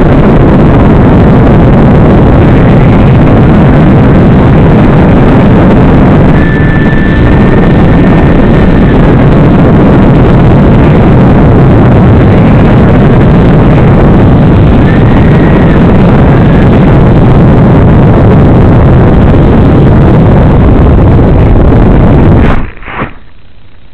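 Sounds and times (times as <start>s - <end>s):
drone motors and propellers: 0.0s - 23.6s
wind rush: 0.0s - 23.6s
thin high whine: 0.0s - 23.9s.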